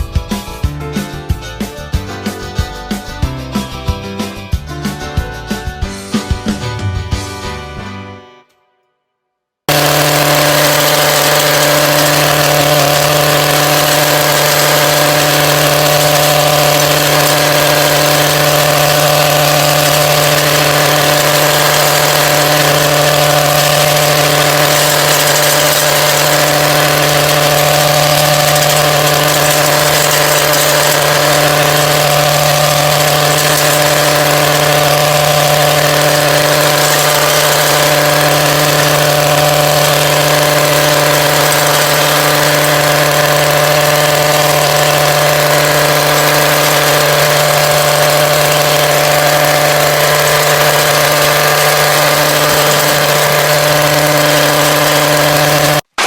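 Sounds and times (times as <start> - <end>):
small two-stroke engine idling: 9.7 - 56.0.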